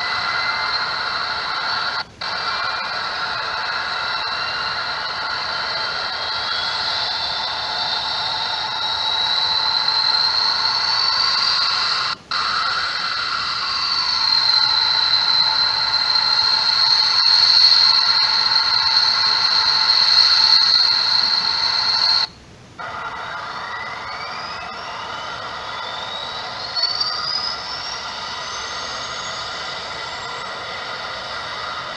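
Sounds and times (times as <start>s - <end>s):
simulated jet turbine whine: 0.0s - 31.9s.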